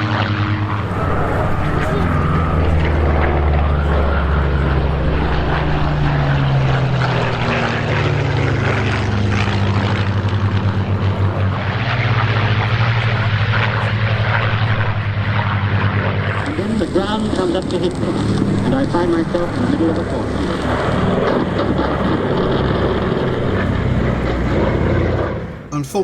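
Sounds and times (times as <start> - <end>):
propeller aircraft flying past: 0.0 - 25.7.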